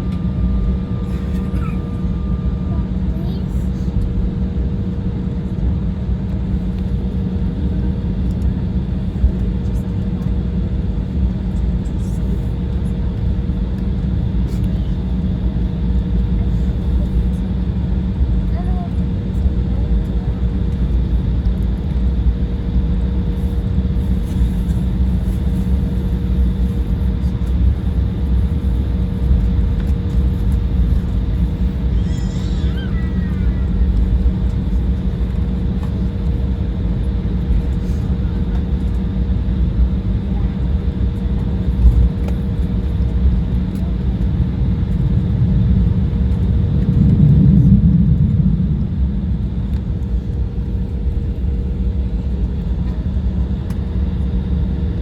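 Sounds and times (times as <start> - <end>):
jet engine cabin rumble: 0.0 - 55.0
steady whine: 0.0 - 55.0.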